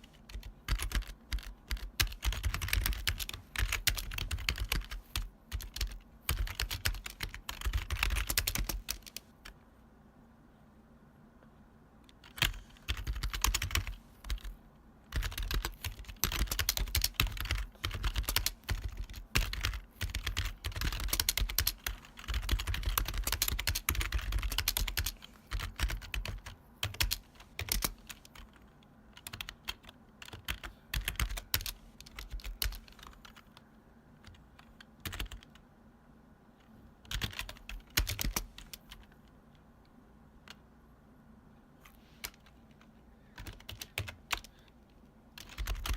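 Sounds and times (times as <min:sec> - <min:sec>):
clacky keyboard typing: 0:00.0 - 0:09.6, 0:12.1 - 0:35.6, 0:37.0 - 0:39.2, 0:42.2 - 0:44.6, 0:45.3 - 0:45.9.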